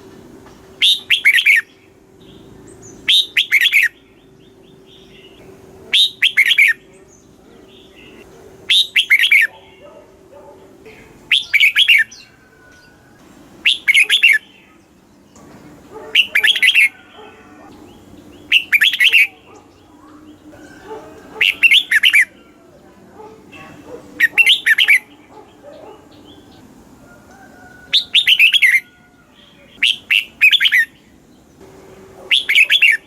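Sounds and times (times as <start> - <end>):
bird song phrase warbling: 0.8 - 15.5, 16.1 - 26.8, 27.6 - 33.0.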